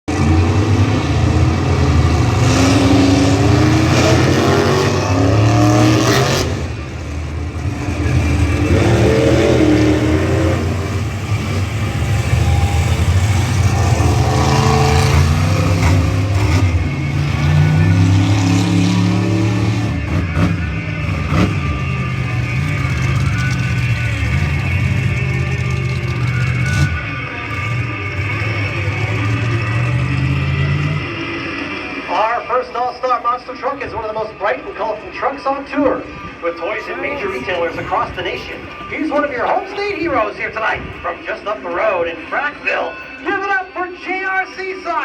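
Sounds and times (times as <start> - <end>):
monster truck engines revving: 0.0 - 43.8
low engine drone: 0.1 - 42.3.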